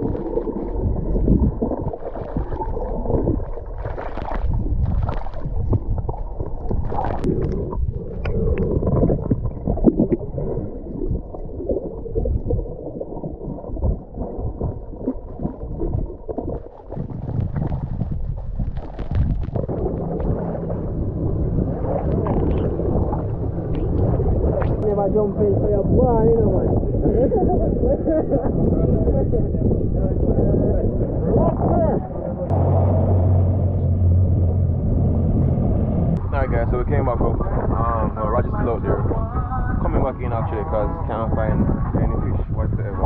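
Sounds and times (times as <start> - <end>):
muffled underwater gurgling: 0.0 - 43.0.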